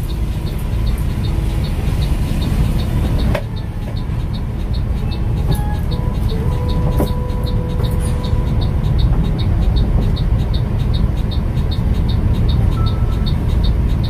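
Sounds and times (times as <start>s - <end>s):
bus engine rumbling: 0.0s - 14.0s
fast high ticking: 0.0s - 14.0s.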